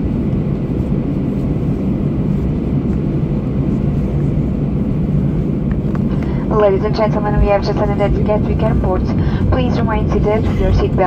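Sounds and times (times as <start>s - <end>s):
aircraft engine noise: 0.0s - 11.0s
faint hum: 0.0s - 11.0s.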